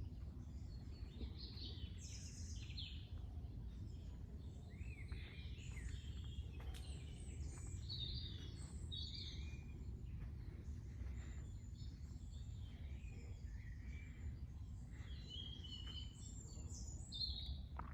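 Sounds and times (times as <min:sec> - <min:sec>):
steady low rumble: 0:00.0 - 0:17.0
small birds chirping: 0:00.0 - 0:17.9.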